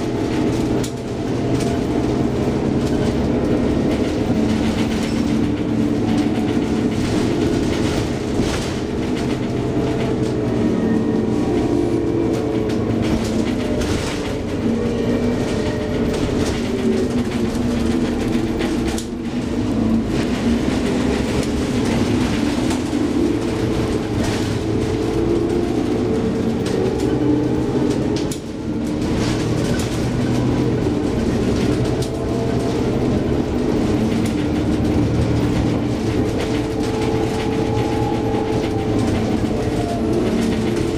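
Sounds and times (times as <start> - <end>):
bus body rattling: 0.0 - 40.9
bus engine hum: 0.0 - 40.9.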